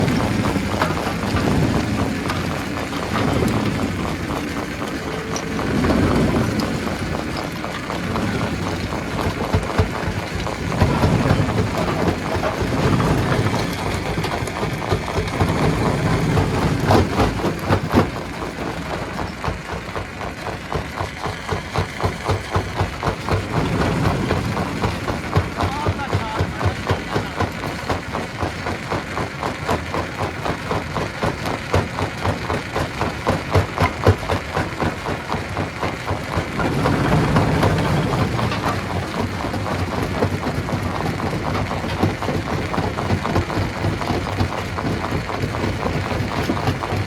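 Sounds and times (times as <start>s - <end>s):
stone crusher machine rumbling: 0.0s - 47.0s.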